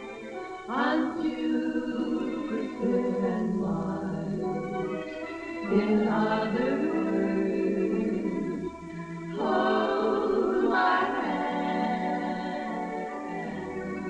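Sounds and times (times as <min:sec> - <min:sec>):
female vocal quartet singing: 0:00.0 - 0:14.0.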